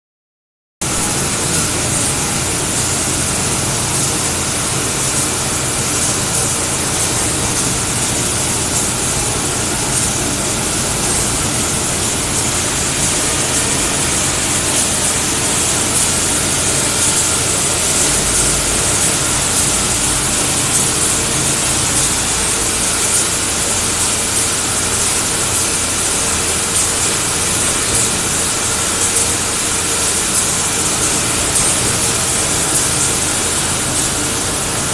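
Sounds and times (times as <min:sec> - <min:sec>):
machine hum: 0:00.8 - 0:34.9
water pouring from faucet: 0:00.9 - 0:34.9.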